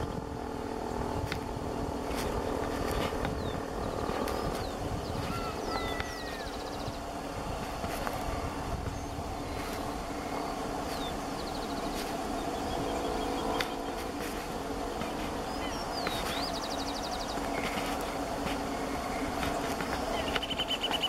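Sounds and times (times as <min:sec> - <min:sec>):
jet engines droning: 0:00.0 - 0:21.0
small birds chirping and trilling: 0:02.1 - 0:21.0.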